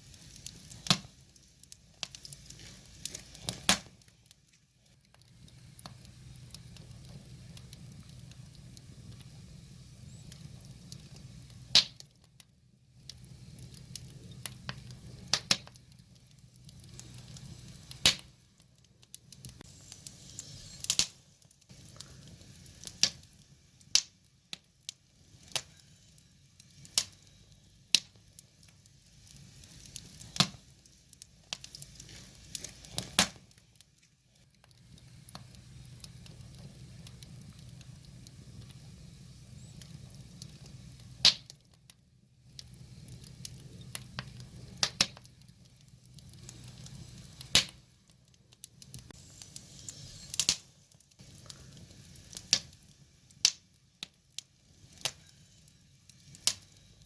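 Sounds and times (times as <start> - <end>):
logs crackling and popping: 0.0 - 57.0.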